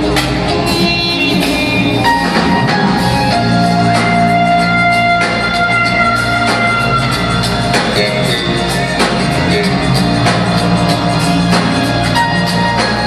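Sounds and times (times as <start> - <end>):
live band music: 0.0 - 13.0
steady drum beat: 0.0 - 13.0.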